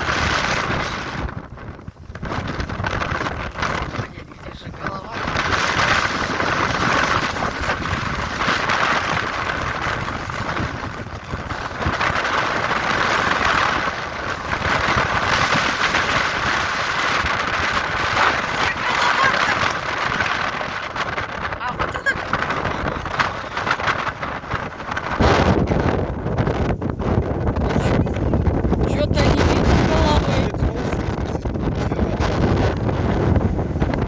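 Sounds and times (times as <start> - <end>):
strong wind gusts on microphone: 0.0 - 34.0.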